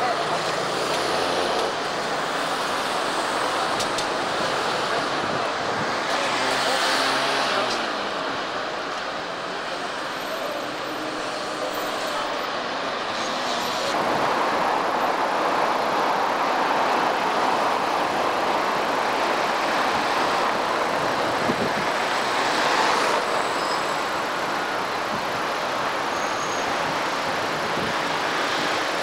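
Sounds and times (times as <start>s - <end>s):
cars driving on busy road: 0.0s - 29.0s.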